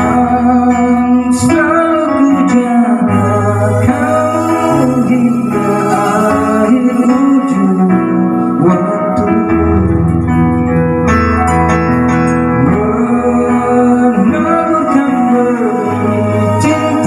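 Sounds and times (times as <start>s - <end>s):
man singing into microphone: 0.0s - 10.5s, 12.4s - 17.0s
backing track with guitar and organ: 0.0s - 17.0s.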